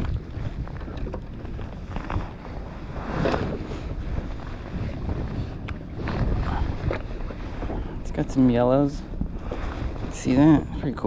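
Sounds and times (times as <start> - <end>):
waves lapping against kayak hull: 0.0 - 11.0
wind buffeting microphone: 0.0 - 11.0.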